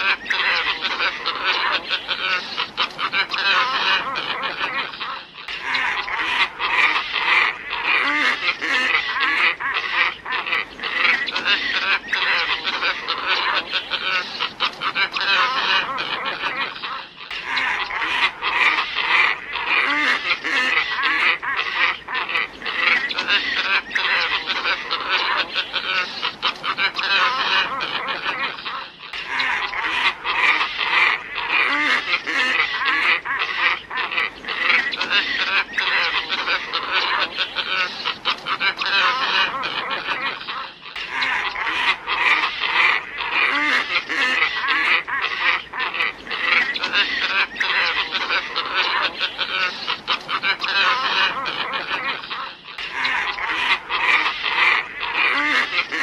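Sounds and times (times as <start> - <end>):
ibis flock honking calls: 0.0 - 56.0.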